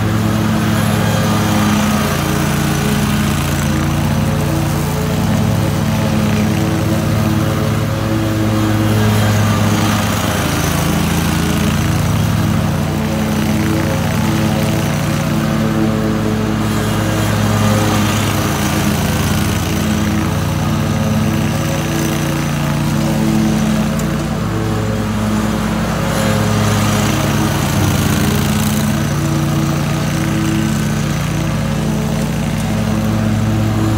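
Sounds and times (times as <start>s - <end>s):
riding mower engine running: 0.0s - 33.9s.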